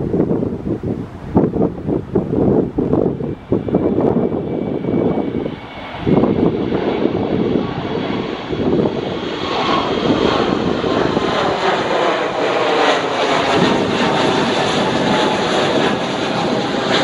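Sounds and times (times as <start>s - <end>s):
jet airliner passing overhead: 0.0s - 17.0s.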